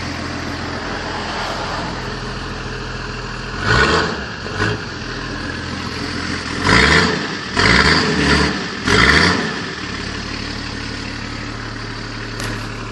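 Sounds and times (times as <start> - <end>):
engine revving and idling: 0.0 - 12.9.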